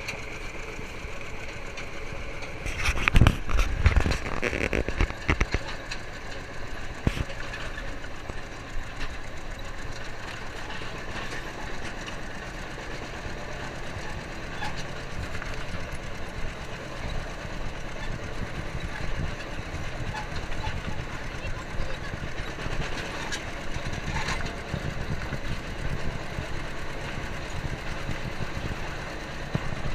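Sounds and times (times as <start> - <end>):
tractor engine running: 0.0 - 29.9
wagon rattling and clattering: 0.0 - 29.9.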